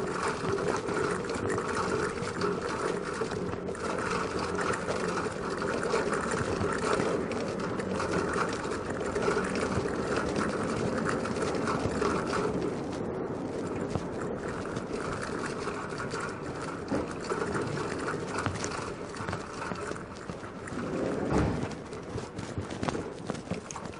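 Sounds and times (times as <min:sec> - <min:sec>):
bicycle rattling over cobblestones: 0:00.0 - 0:23.9.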